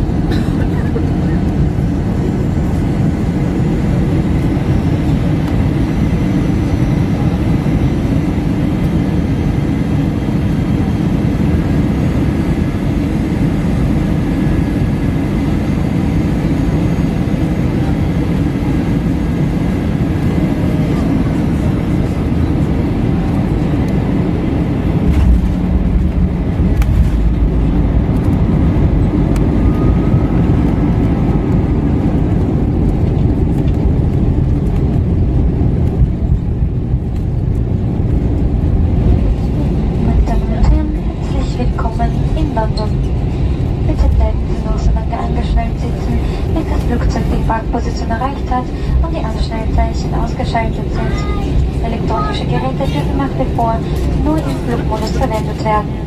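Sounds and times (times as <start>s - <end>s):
airliner cabin roar: 0.0s - 56.0s
deep rumble: 0.0s - 56.0s
faint steady whines: 0.0s - 56.0s.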